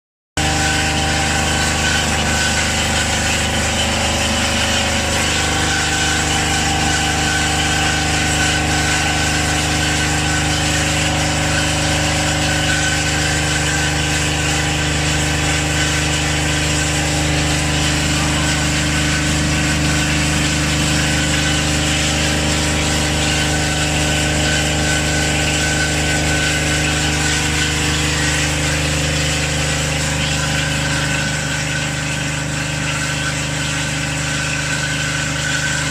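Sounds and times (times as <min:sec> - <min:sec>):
milling machine humming: 0:00.4 - 0:35.9.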